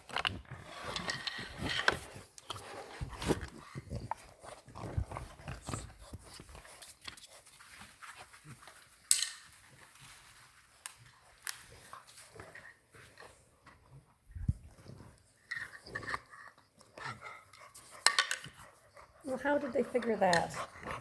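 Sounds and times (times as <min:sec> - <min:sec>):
puppies gnawing chew bones: 0:00.0 - 0:21.0.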